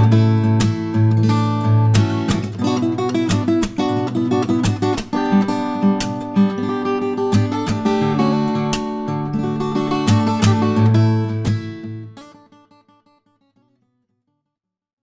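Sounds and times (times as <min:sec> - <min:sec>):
acoustic guitar strumming and plucking: 0:00.0 - 0:13.9.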